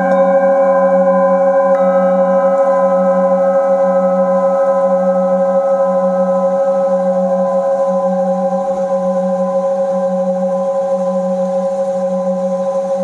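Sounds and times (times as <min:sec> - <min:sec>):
metal singing bowls ringing: 0:00.0 - 0:13.0.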